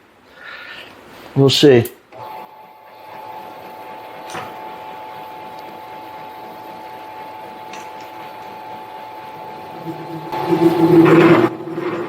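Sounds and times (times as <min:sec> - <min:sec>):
lathe whining while drilling: 0:02.2 - 0:12.0.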